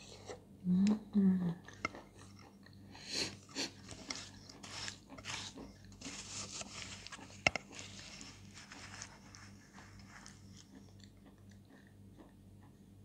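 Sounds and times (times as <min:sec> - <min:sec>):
wet chewing and mouth sounds: 0:01.6 - 0:13.0.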